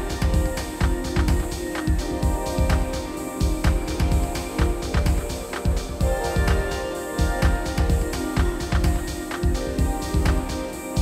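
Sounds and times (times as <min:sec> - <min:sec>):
deep thumping beat: 0:00.0 - 0:11.0
electronic ambient music: 0:00.0 - 0:11.0.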